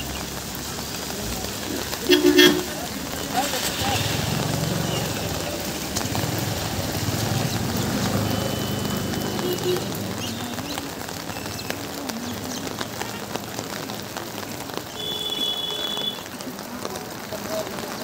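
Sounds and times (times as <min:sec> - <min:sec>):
rain on a wet street: 0:00.0 - 0:18.0.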